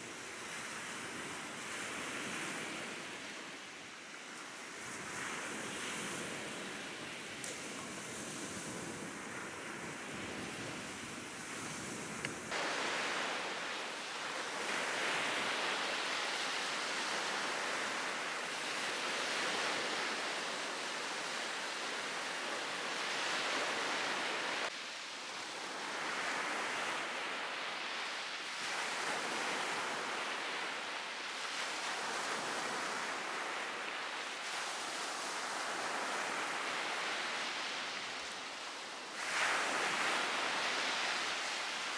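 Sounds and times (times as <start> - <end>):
sea surf breaking on beach: 0.0 - 41.9.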